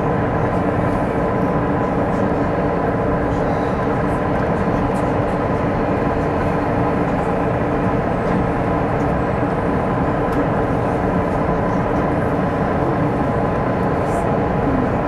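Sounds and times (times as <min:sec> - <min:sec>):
train running and wind noise: 0:00.0 - 0:15.0.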